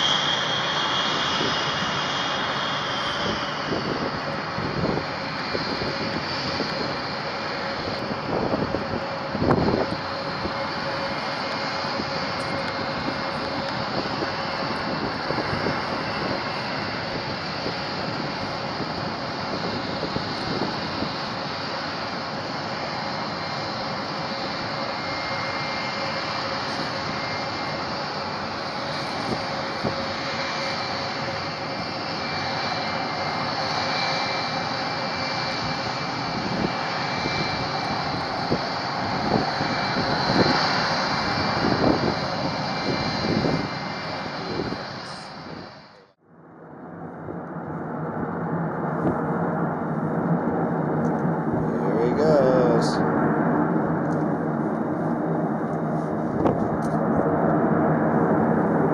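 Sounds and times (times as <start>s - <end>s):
jet engines whining: 0.0s - 58.9s.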